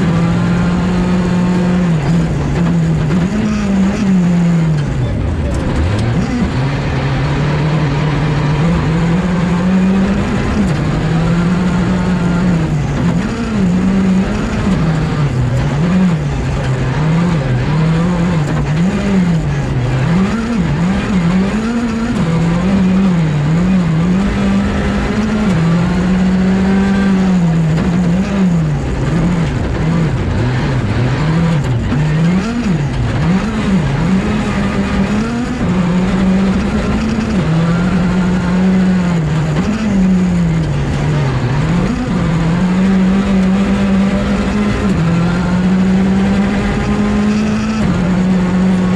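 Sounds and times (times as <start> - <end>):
rally car engine revving: 0.0 - 48.9.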